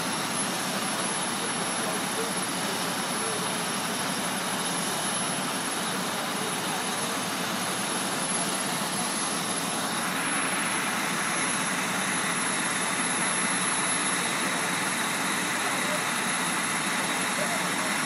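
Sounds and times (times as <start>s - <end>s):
diesel truck engines running: 0.0s - 18.0s.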